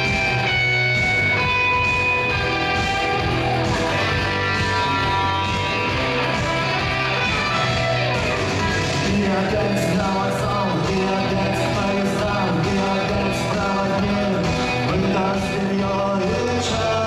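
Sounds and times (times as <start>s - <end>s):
rock song with guitar: 0.0s - 17.0s
person singing: 2.7s - 17.0s.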